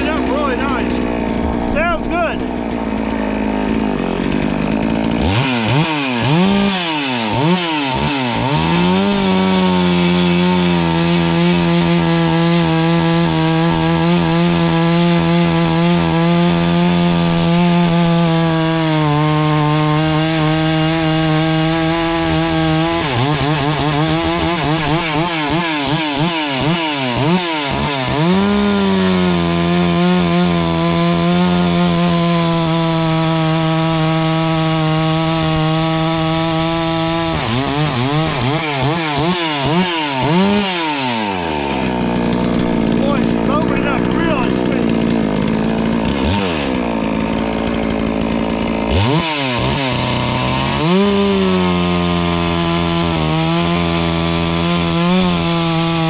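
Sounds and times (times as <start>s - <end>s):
chainsaw revving and cutting log: 0.0s - 56.0s.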